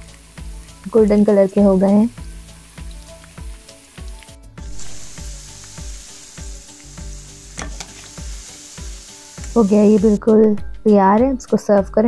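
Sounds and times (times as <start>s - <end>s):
hot oil sizzling: 0.0s - 10.2s
background music with steady beat: 0.0s - 12.0s.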